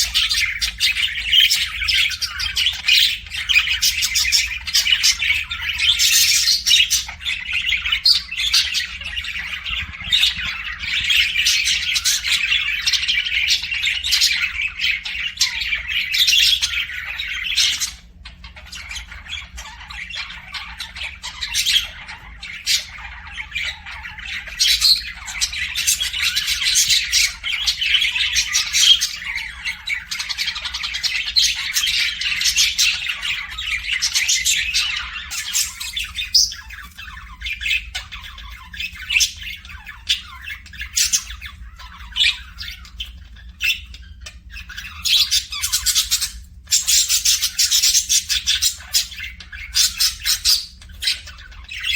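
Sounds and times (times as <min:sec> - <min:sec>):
birds chirping and squawking: 0:00.0 - 0:51.9.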